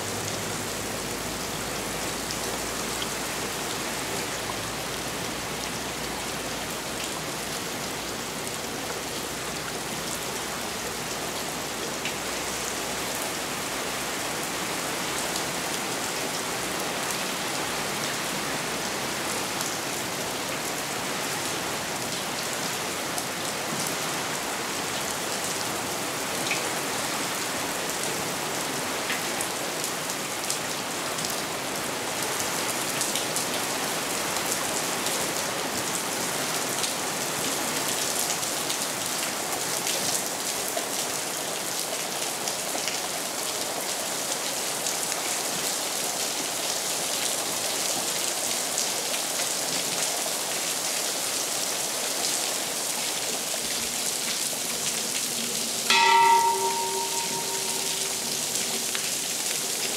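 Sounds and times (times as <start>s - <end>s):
rain on stone paving: 0.0s - 59.9s.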